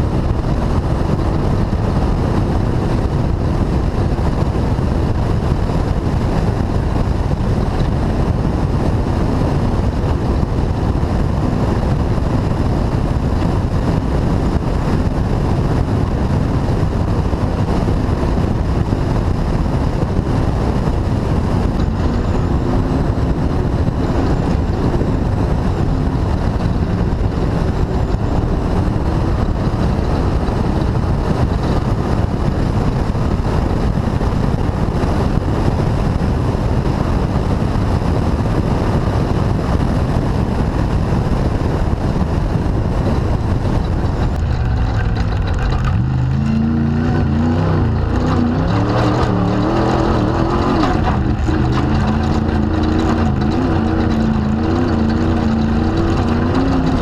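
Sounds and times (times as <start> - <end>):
race vehicle engine running hard: 0.0 - 57.0
road and wind noise: 0.0 - 57.0.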